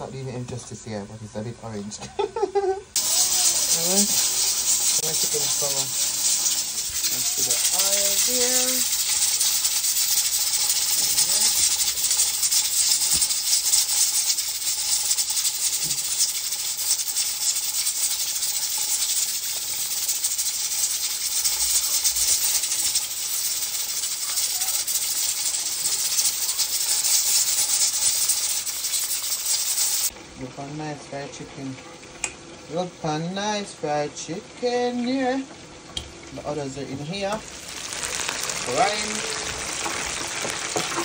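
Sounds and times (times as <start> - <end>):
oil sizzling and crackling: 1.4 - 41.0.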